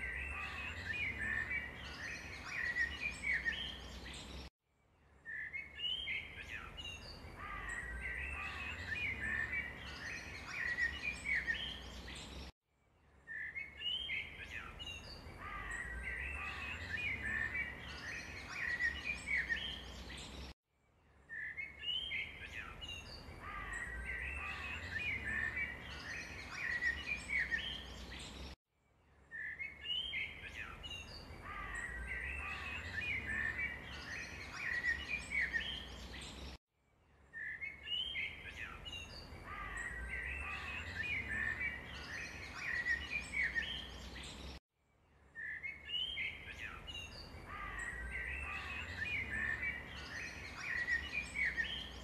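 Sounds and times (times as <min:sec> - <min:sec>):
small birds chirping: 0:00.0 - 0:04.5, 0:05.1 - 0:12.5, 0:13.2 - 0:20.6, 0:21.2 - 0:28.6, 0:29.2 - 0:36.6, 0:37.2 - 0:44.6, 0:45.2 - 0:52.0.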